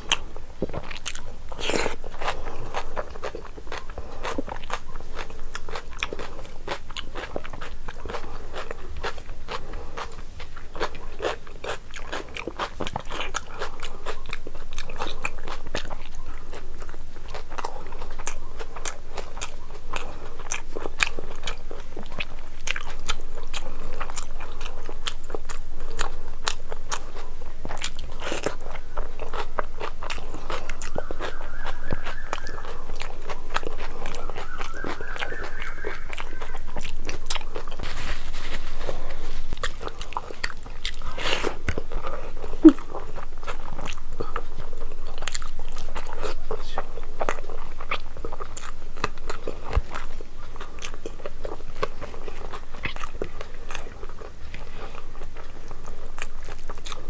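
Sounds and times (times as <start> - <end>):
close-up chewing mouth sounds: 0.0 - 57.0.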